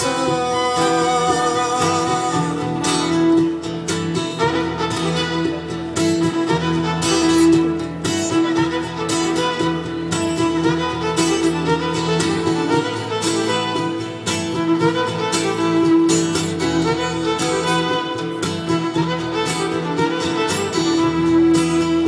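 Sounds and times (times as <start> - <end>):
live band playing instrumental: 0.0 - 22.0.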